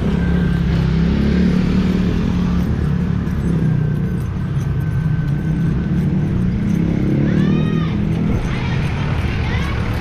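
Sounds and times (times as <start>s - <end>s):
road noise: 0.0s - 10.0s
vehicle engine humming: 0.0s - 10.0s.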